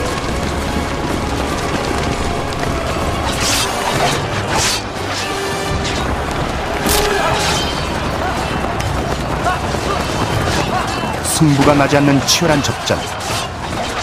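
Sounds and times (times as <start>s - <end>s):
battle soundtrack music: 0.0s - 14.0s
rumble of charging cavalry: 0.0s - 14.0s.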